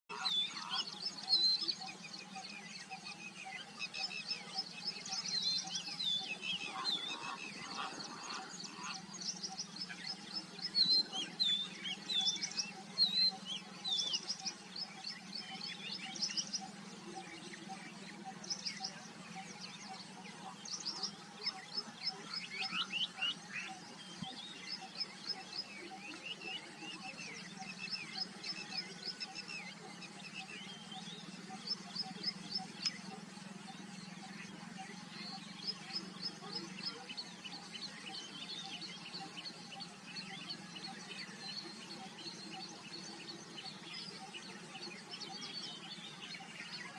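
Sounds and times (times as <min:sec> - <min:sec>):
small birds chirping and singing: 0:00.1 - 0:46.9.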